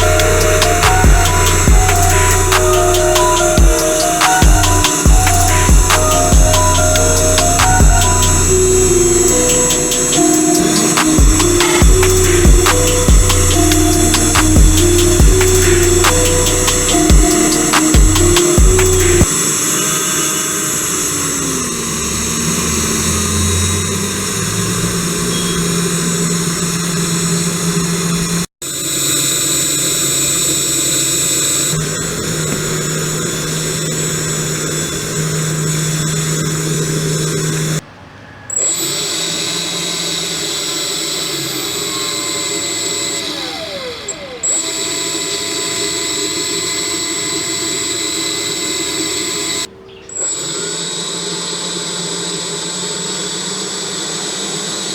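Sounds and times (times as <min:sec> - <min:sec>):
small electric fan motor whining: 0:00.0 - 0:54.9.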